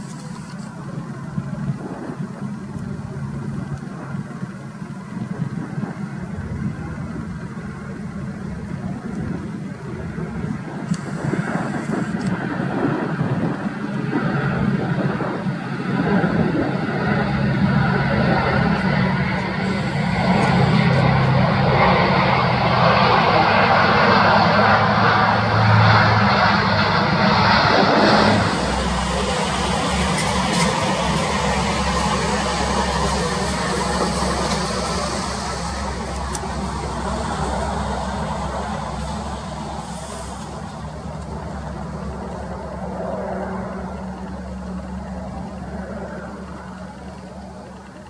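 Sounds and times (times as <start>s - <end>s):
low propeller drone: 0.0s - 48.0s
turboprop aircraft roar overhead: 0.0s - 48.0s.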